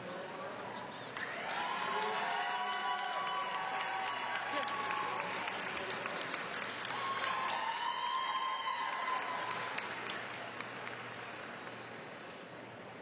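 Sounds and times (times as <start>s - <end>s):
spectators clapping: 1.1s - 12.2s.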